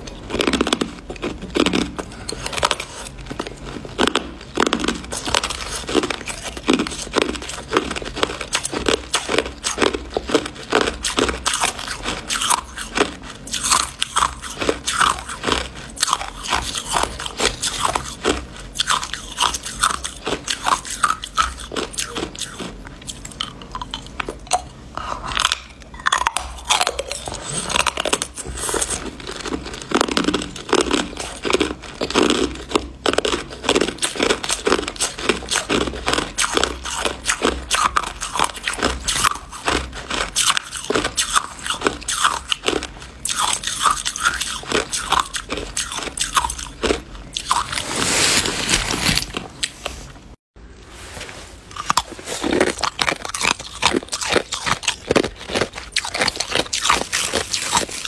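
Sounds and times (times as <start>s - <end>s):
ice cubes crunching between teeth: 0.0s - 24.7s, 25.3s - 47.9s, 51.7s - 58.0s.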